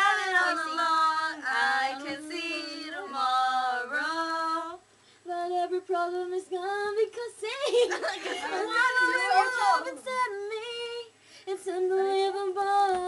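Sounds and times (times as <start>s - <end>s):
girls singing a pop song: 0.0s - 13.0s.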